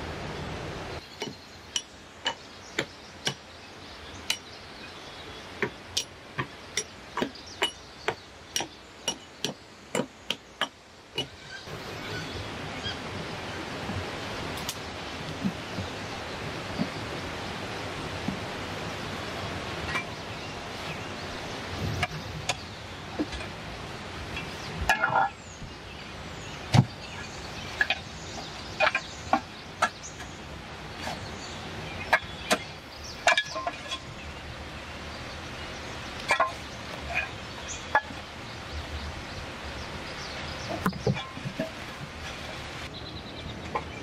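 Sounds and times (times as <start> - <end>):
steady background hiss: 0.0 - 44.0.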